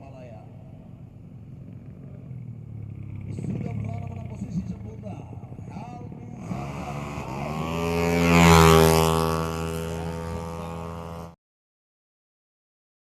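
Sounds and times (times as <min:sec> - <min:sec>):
scooter engine at full throttle: 0:00.6 - 0:11.4.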